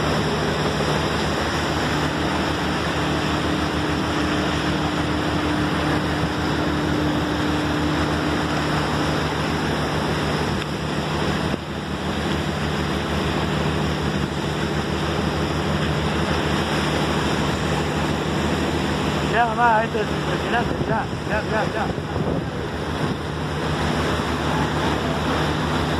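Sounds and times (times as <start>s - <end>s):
boat engine humming: 0.0s - 25.9s
water rushing along hull: 0.0s - 25.9s.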